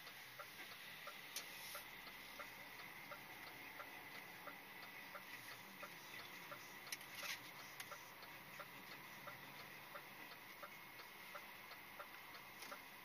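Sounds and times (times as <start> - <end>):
turn signal ticking: 0.0 - 13.0.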